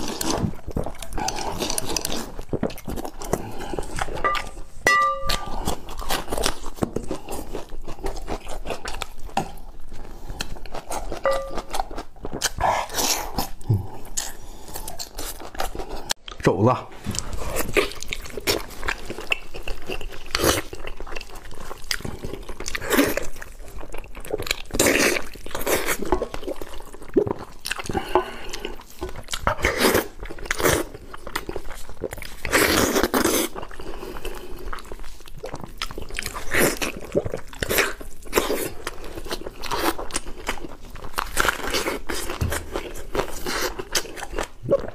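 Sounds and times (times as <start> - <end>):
person chewing and biting: 0.0 - 16.2, 17.1 - 44.9.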